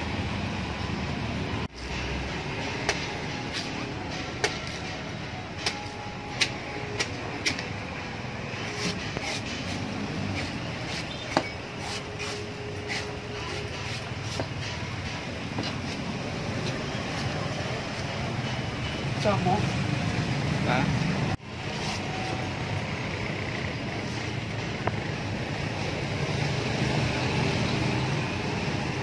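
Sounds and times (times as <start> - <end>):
street noise hum: 0.0 - 29.0.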